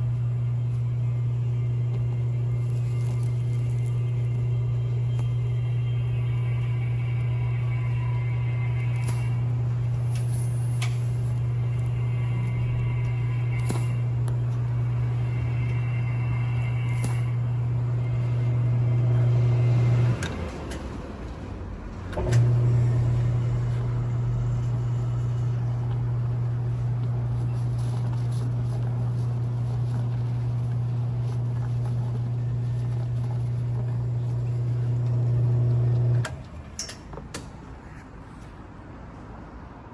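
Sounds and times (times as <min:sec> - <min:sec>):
electric pump humming: 0:00.0 - 0:36.6.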